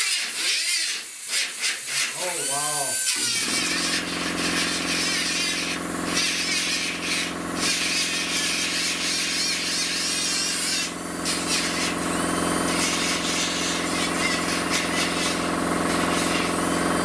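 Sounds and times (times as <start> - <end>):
die grinder grinding metal: 0.0 - 17.0.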